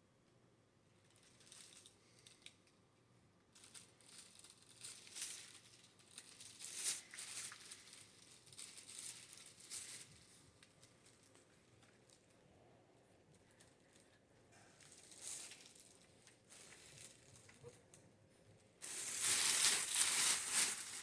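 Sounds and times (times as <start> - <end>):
faint crinkling and rustling: 0.9 - 21.0.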